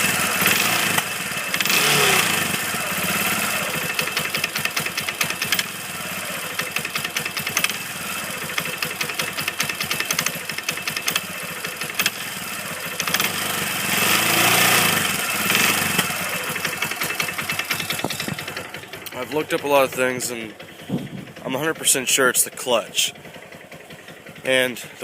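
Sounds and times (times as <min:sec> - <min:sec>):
engine running with knocking rattle: 0:00.0 - 0:25.0.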